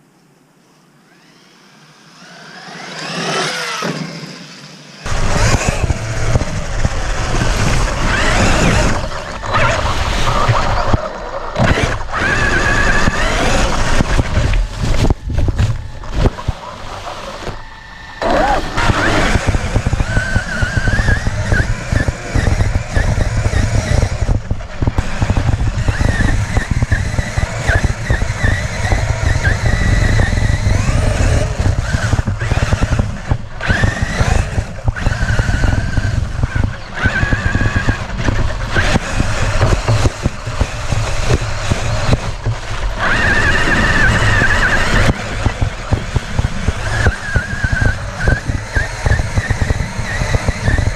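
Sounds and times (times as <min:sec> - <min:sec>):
rc truck motor and gear whine: 0:00.6 - 0:50.9
tyres rumbling over terrain: 0:02.2 - 0:50.9.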